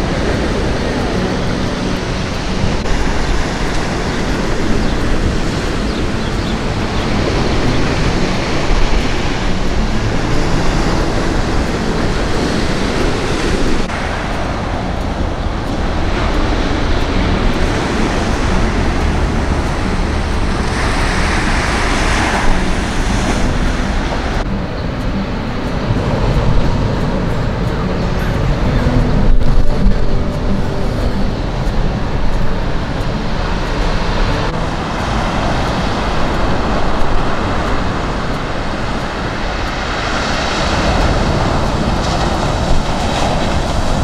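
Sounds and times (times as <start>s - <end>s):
sea waves breaking on shore: 0.0s - 44.0s
wind buffeting microphone: 0.0s - 44.0s.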